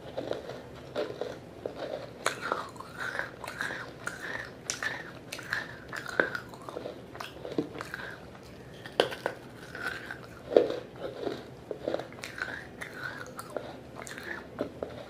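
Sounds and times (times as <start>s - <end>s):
chewing: 0.0s - 15.0s
clay crunching between teeth: 0.0s - 15.0s.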